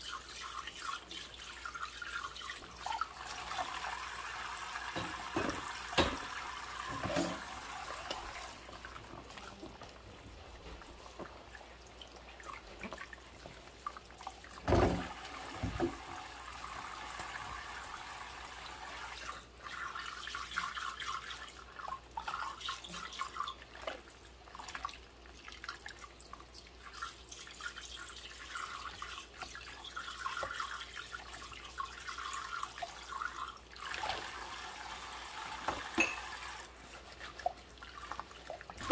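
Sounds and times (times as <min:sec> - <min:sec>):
water sloshing and dripping: 0:00.0 - 0:38.9.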